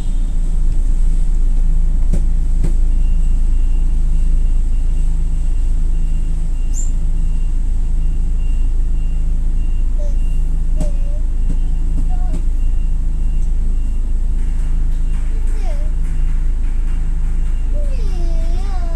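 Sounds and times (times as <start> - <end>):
minibus engine low rumble: 0.0 - 18.9.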